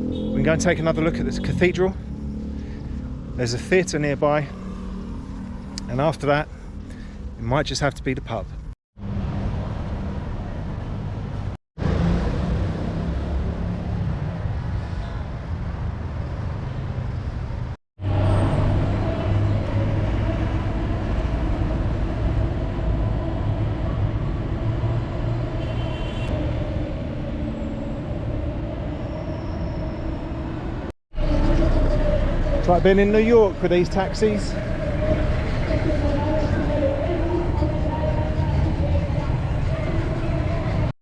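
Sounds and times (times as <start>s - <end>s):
vehicle engines running: 0.0s - 25.6s, 26.4s - 40.9s
road noise rumble: 0.0s - 41.0s.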